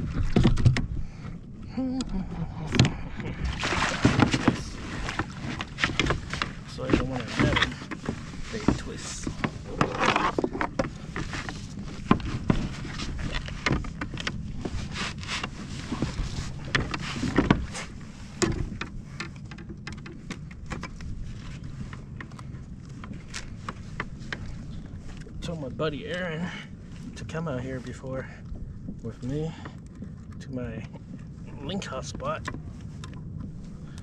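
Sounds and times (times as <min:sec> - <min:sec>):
low rumble of wind and water: 0:00.0 - 0:34.0
fishing gear clicking and rattling: 0:02.7 - 0:27.2, 0:27.8 - 0:31.3.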